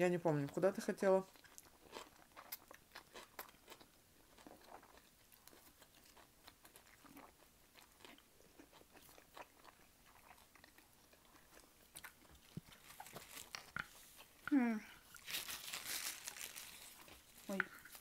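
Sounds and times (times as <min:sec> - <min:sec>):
chewing food: 0:00.4 - 0:18.0.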